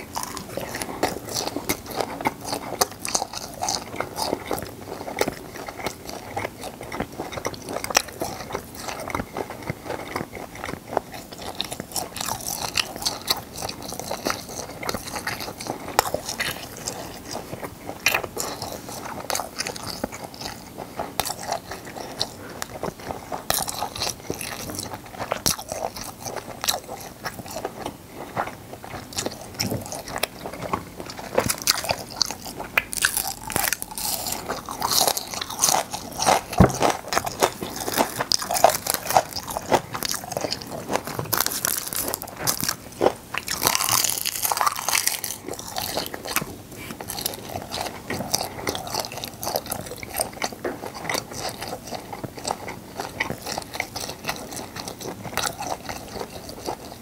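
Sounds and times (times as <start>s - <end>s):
wet chewing and biting: 0.0s - 57.0s.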